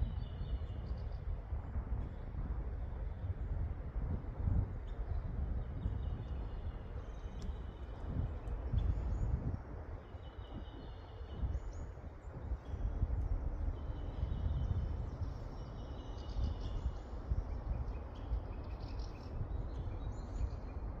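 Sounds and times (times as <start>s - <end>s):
songbirds singing: 0.0s - 1.5s, 4.4s - 21.0s
steady low rumble: 0.0s - 21.0s.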